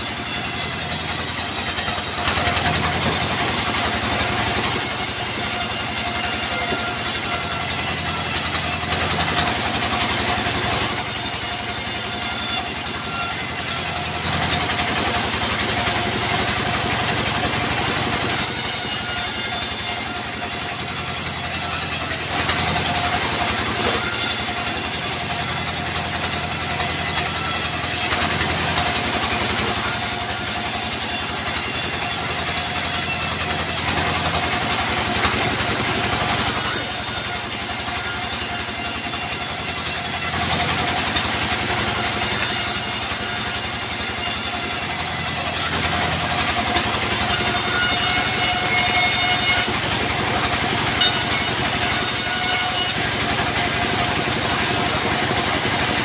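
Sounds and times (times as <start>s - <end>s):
band saw cutting timber: 0.0s - 56.0s
engine drone: 0.0s - 56.0s.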